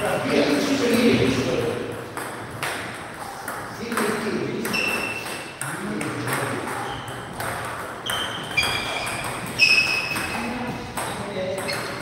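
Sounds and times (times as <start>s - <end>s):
table tennis ball pings: 1.6s - 12.0s.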